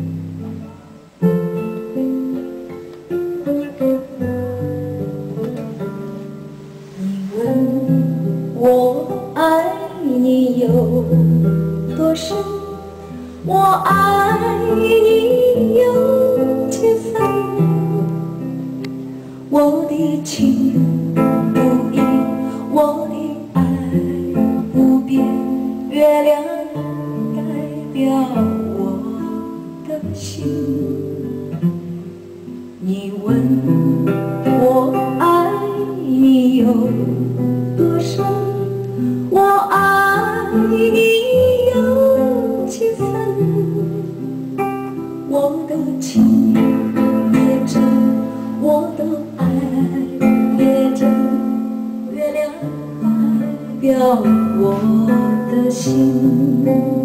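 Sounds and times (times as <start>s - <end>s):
acoustic song over loudspeakers: 0.0s - 57.0s.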